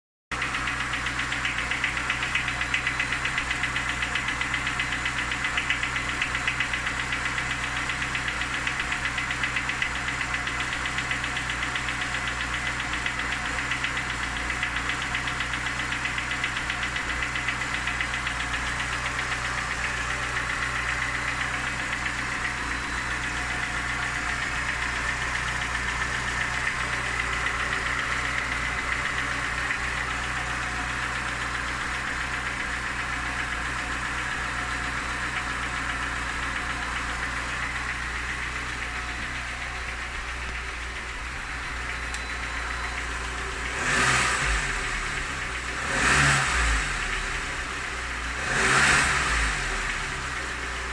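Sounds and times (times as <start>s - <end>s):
car engine knocking: 0.3s - 50.9s.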